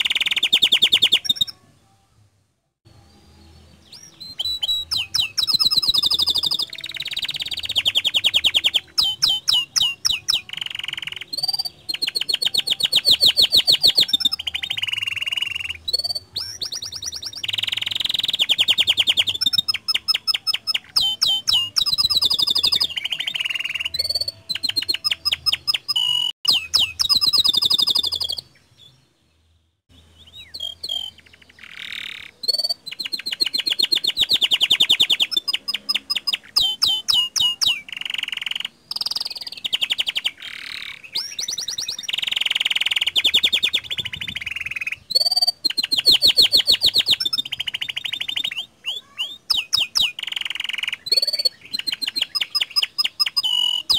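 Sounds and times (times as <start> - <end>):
canary singing trills: 0.0 - 1.8, 2.9 - 53.9.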